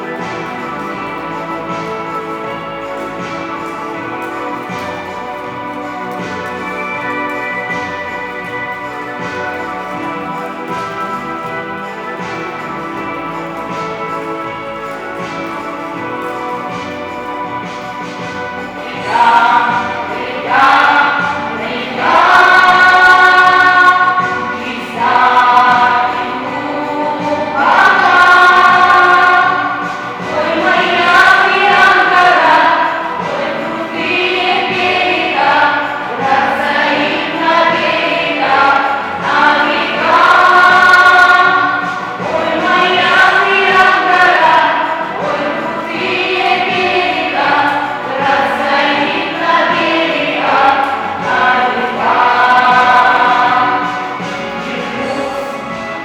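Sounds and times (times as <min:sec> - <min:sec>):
children singing in harmony: 0:00.0 - 0:56.0.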